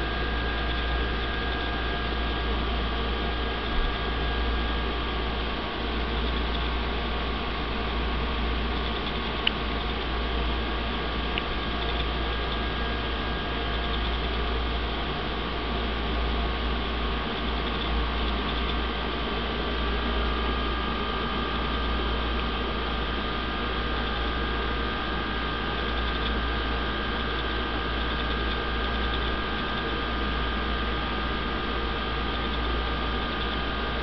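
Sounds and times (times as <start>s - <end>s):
aquarium filter hum and hiss: 0.0s - 34.0s.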